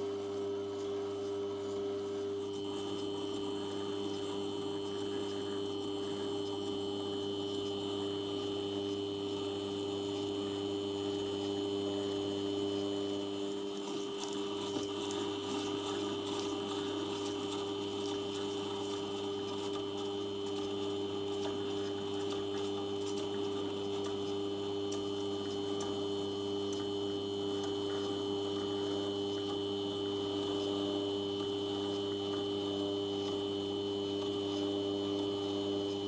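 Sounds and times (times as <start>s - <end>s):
polishing spindle motor humming: 0.0s - 36.0s.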